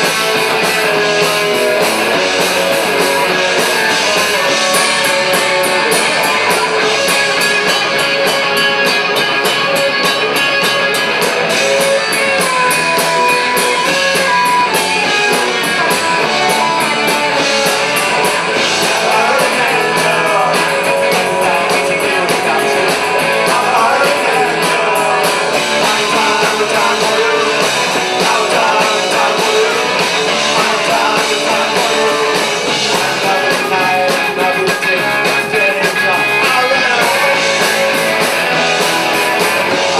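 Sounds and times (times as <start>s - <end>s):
drum kit: 0.0s - 39.9s
electric guitars: 0.0s - 39.9s.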